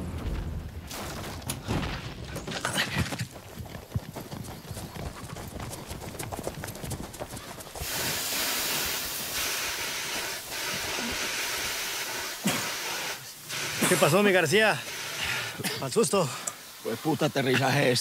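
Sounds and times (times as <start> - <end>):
steady rushing hiss: 3.1 - 18.0.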